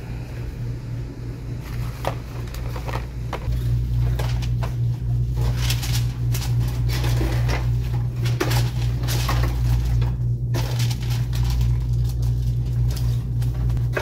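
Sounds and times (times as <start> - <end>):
steady low hum: 0.0 - 14.0
wrapping sheet crinkling: 1.7 - 13.9.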